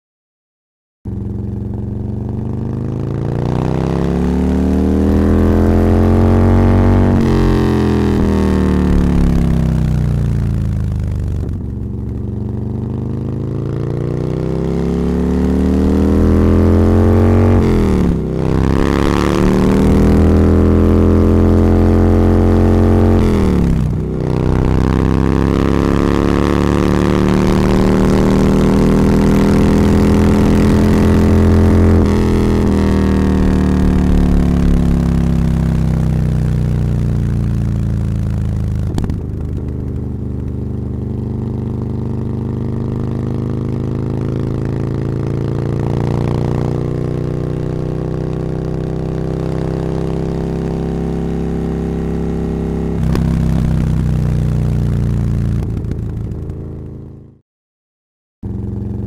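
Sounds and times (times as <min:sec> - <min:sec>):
motorcycle engine while riding: 0:01.1 - 0:57.4, 0:58.4 - 0:59.0.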